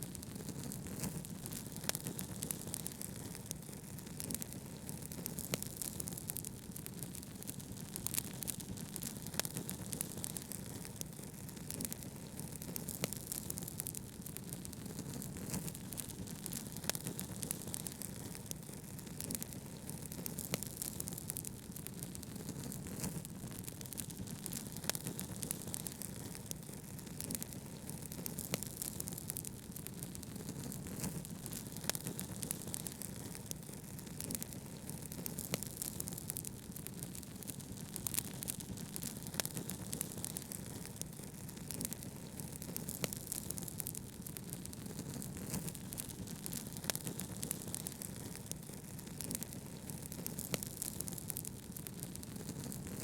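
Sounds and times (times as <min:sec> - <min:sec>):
wood fire crackling: 0:00.0 - 0:53.0
sharp pops and snaps: 0:00.1 - 0:53.0.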